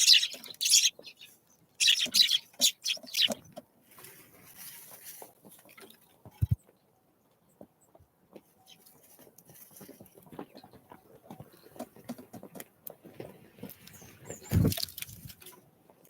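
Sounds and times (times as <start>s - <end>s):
birds pecking and scrabbling: 0.0s - 6.8s, 7.8s - 16.0s.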